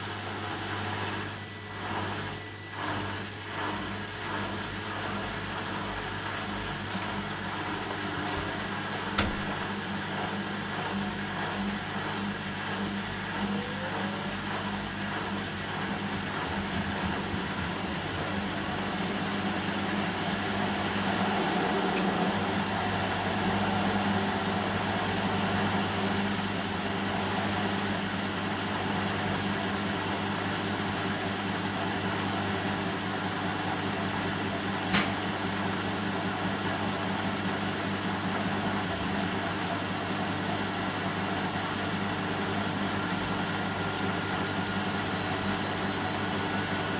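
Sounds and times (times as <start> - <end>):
washing machine motor hum: 0.0 - 46.9.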